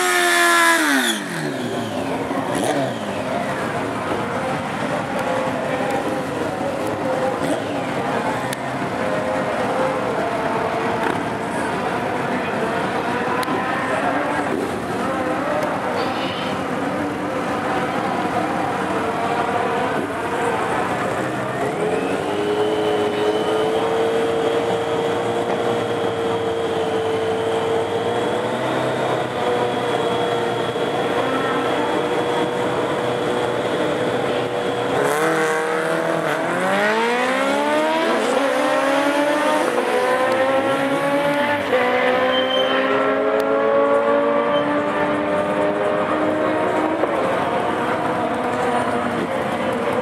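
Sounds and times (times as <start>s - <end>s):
motorcycle engine revving: 0.0s - 16.0s, 16.6s - 50.0s.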